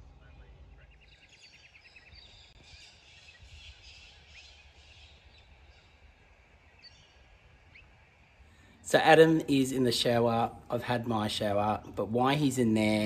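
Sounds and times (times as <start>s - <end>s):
wild birds calling: 0.0s - 13.0s.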